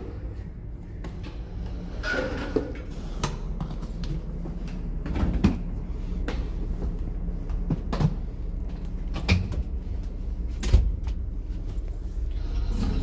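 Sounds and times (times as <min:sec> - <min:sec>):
low hum of ship machinery: 0:00.0 - 0:13.0.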